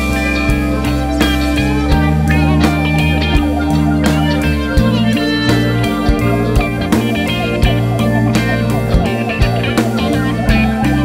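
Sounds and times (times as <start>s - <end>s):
music with beat and bass: 0.0s - 11.0s.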